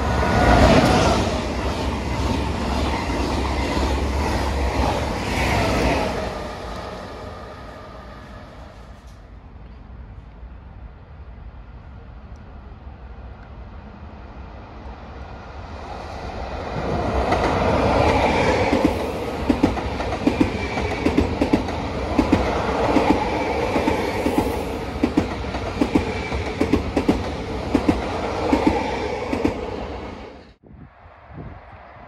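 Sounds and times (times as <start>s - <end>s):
rush of train wheels and motors: 0.0s - 32.0s.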